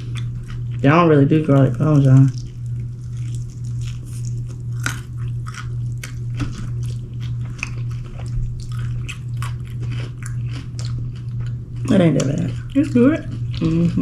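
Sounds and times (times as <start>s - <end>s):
chewing crispy chicken wings: 0.0s - 14.0s
steady low hum: 0.0s - 14.0s.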